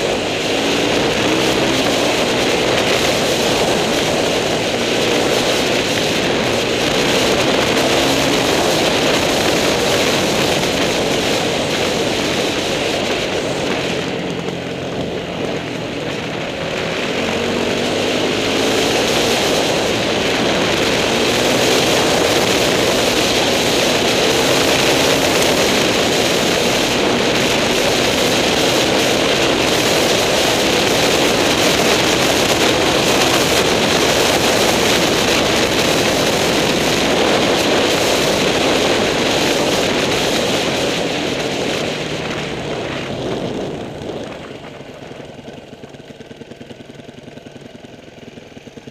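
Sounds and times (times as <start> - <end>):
wind noise on microphone: 0.0 - 45.4
motorcycle engine running: 0.0 - 48.9.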